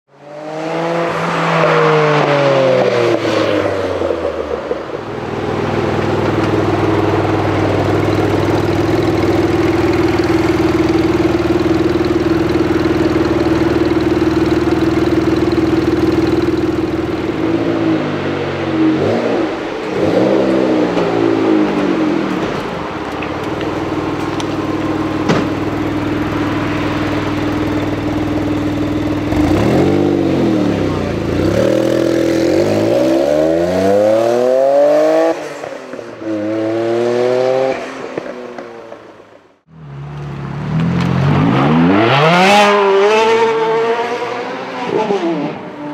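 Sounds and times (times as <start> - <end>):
car engine revving: 0.2 - 39.1, 39.7 - 45.9.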